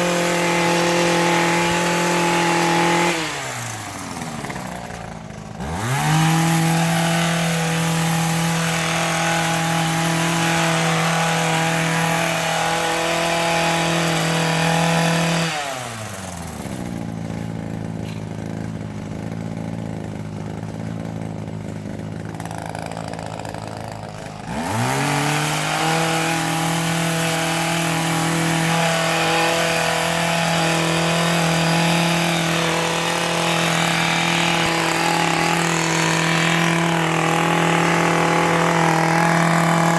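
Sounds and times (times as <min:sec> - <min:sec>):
hedge trimmer engine revving: 0:00.0 - 0:39.9.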